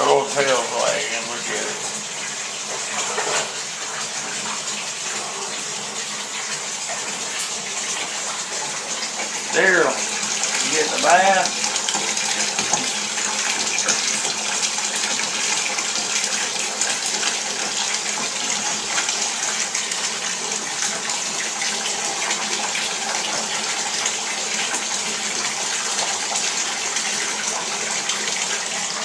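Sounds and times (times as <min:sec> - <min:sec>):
tap running into bathtub: 0:00.0 - 0:29.0.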